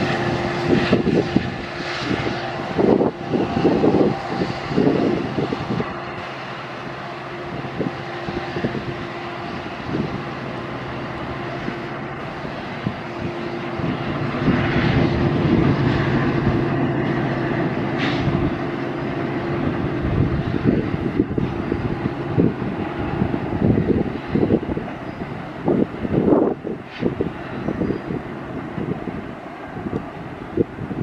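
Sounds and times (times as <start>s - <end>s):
diesel locomotive engine droning: 0.0s - 31.0s.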